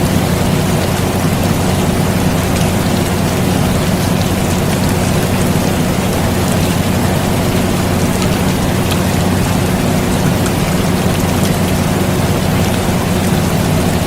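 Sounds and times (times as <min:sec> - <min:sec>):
air conditioner hum: 0:00.0 - 0:14.0
rain pattering: 0:00.0 - 0:14.0.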